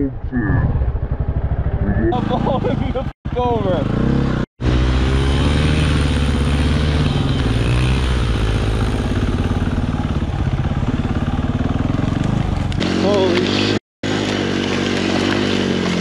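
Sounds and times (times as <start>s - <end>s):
dirt bike engine running: 0.7s - 16.0s.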